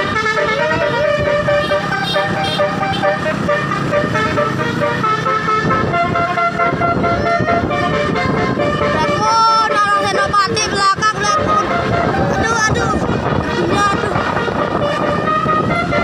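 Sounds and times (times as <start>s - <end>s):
bus engine rumble: 0.0s - 16.0s
multi-tone bus horn tune: 0.0s - 16.0s
traffic: 0.0s - 16.0s.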